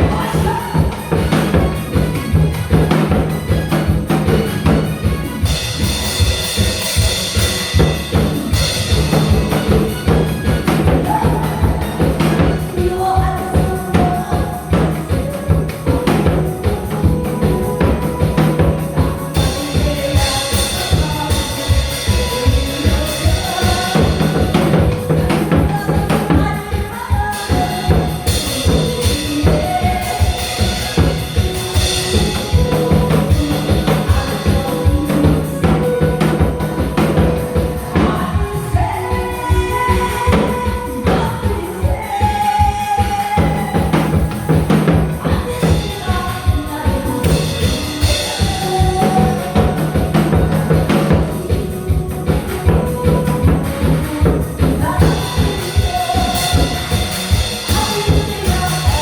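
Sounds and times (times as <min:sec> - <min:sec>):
fast drumbeat: 0:00.0 - 0:59.0
upbeat backing track with melody: 0:00.0 - 0:59.0.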